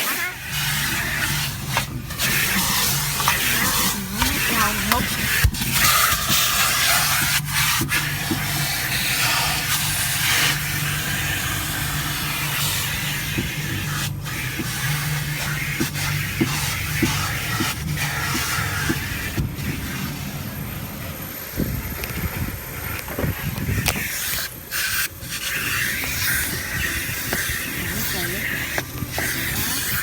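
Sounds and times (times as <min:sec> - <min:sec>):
low machinery hum: 0:00.0 - 0:30.0.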